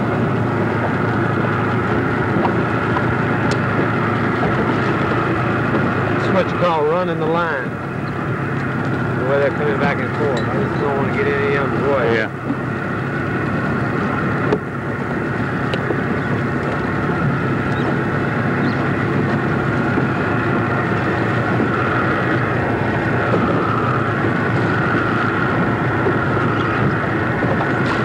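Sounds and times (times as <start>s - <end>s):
outboard motor running: 0.0s - 28.0s
wind noise on microphone: 0.0s - 28.0s.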